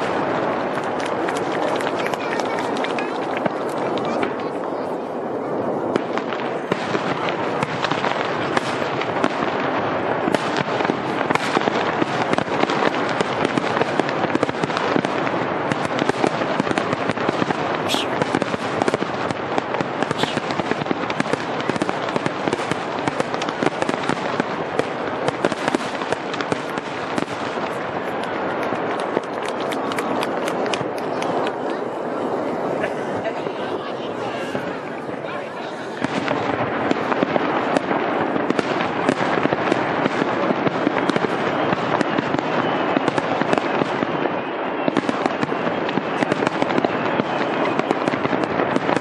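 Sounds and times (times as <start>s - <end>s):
fireworks crackling: 0.0s - 49.0s.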